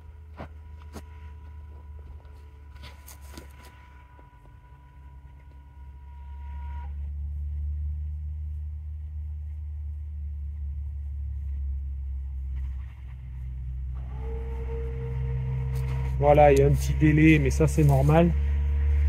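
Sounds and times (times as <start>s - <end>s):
low motor drone: 0.0s - 19.0s
low steady hum: 0.0s - 19.0s.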